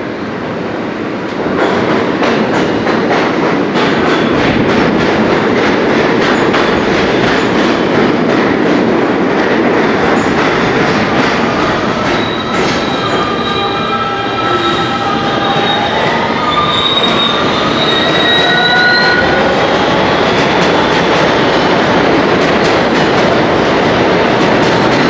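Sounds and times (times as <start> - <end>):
subway train wheels clattering: 0.0 - 25.0.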